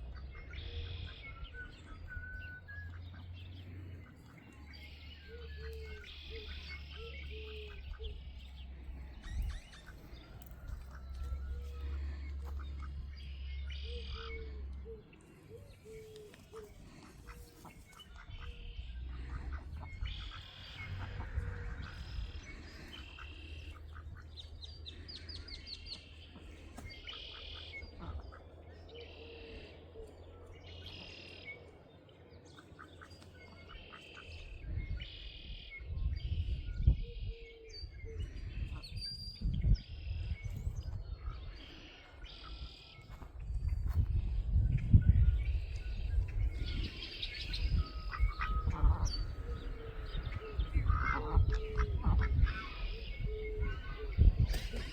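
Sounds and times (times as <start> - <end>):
low rumbling noise: 0.0 - 32.5, 37.8 - 54.9
small birds chirping: 0.0 - 54.9.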